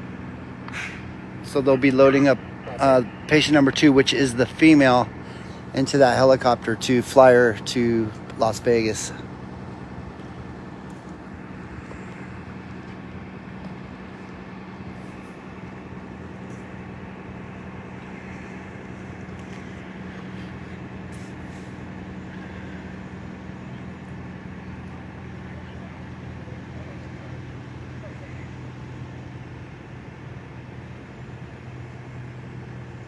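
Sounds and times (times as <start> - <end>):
large engine idling: 0.0 - 33.0.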